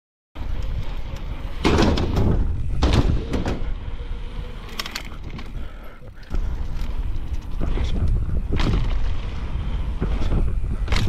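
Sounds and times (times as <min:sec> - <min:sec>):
bicycle tyres rumbling on asphalt: 0:00.4 - 0:11.0
wind: 0:00.4 - 0:11.0.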